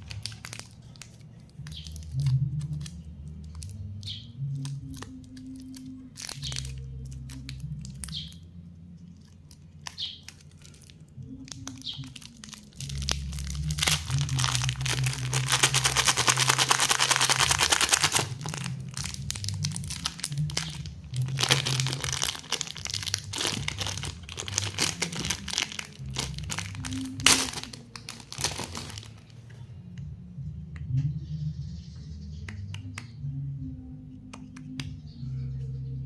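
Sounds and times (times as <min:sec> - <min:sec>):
plastic wrappers crinkling: 0:00.0 - 0:08.4, 0:09.0 - 0:29.5.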